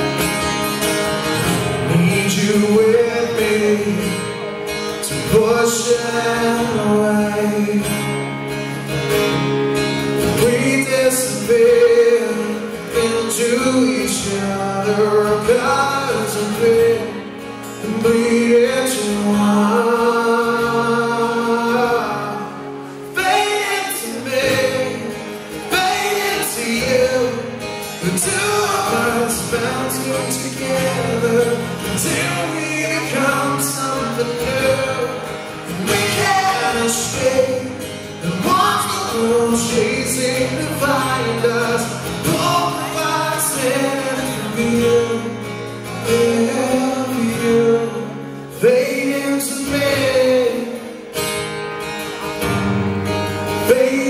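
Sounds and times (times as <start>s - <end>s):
acoustic guitar: 0.0s - 54.0s
man singing: 1.2s - 51.2s, 53.3s - 54.0s.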